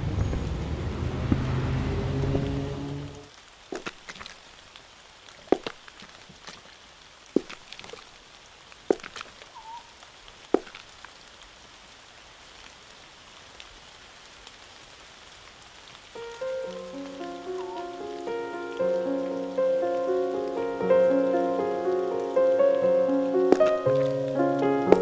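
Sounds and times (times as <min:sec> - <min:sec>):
rain patter on puddle: 0:00.2 - 0:25.0.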